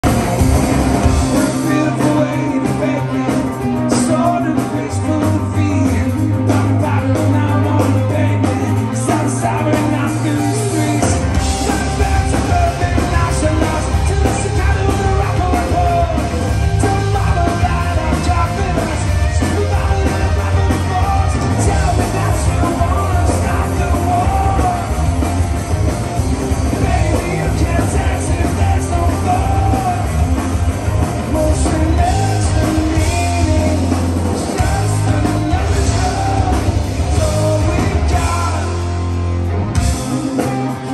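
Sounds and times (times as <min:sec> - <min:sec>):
drums at a driving beat: 0:00.0 - 0:40.9
live rock band playing: 0:00.0 - 0:40.9
person singing: 0:01.2 - 0:25.1, 0:26.7 - 0:30.3, 0:31.2 - 0:39.1.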